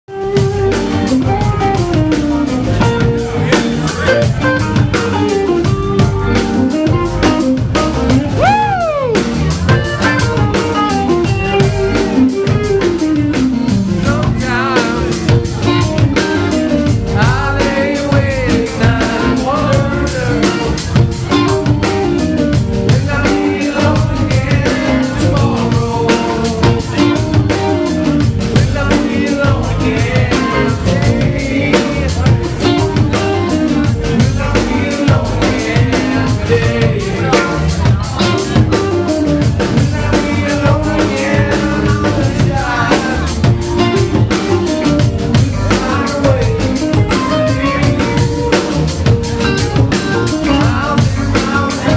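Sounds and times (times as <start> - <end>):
drum kit steady beat: 0.1 - 51.9
electric guitars: 0.1 - 51.9
keyboard: 0.1 - 51.9.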